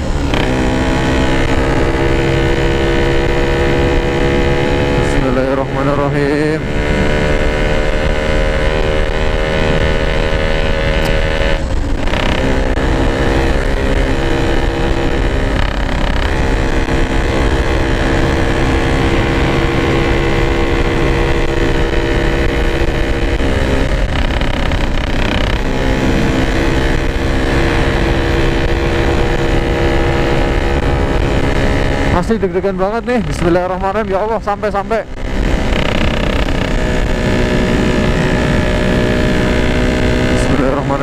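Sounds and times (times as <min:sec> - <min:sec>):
two-stroke motorcycle engine running: 0:00.0 - 0:41.0.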